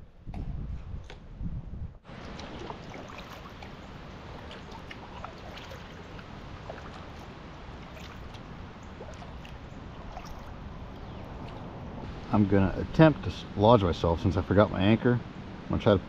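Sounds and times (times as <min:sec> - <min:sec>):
rain falling on water: 0:02.1 - 0:15.0.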